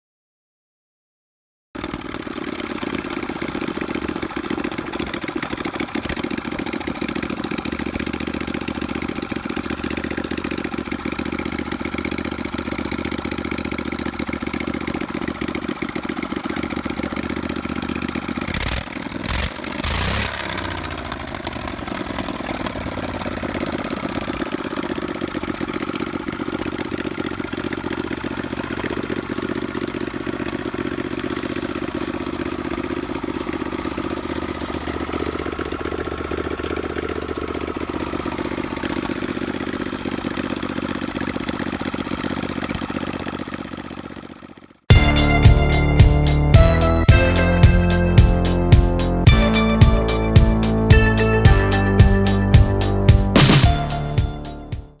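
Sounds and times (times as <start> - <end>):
engine idling and revving: 1.8 - 55.0.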